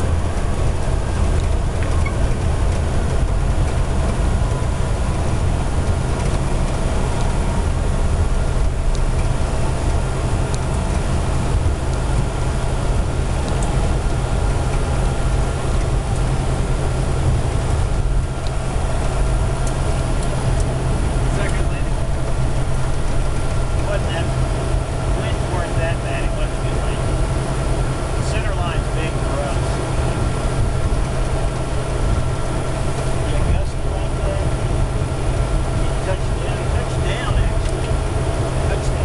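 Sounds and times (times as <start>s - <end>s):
low engine drone: 0.0s - 39.0s
steady tones: 0.0s - 39.0s.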